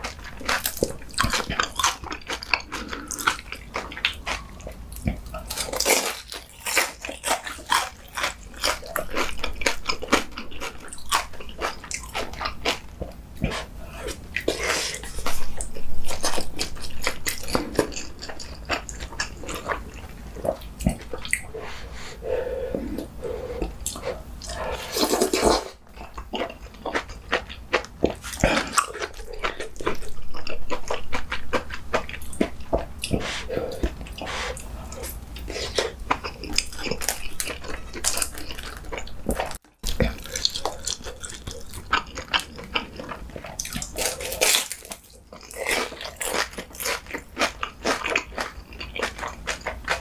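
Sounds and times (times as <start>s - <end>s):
person chewing crunchy food: 0.0s - 50.0s.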